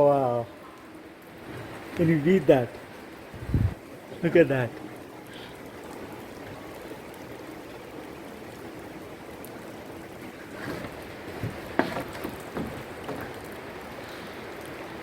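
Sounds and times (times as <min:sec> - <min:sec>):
water running and dripping: 0:00.0 - 0:15.0
wet snowfall hiss: 0:00.0 - 0:15.0.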